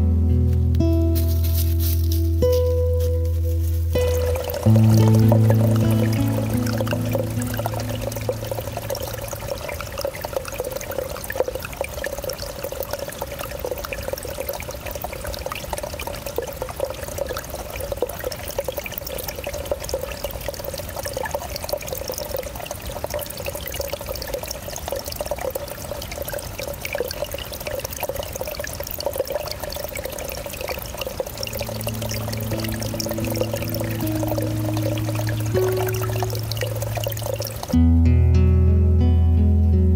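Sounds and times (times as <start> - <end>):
stream trickling over stones: 1.2 - 37.8.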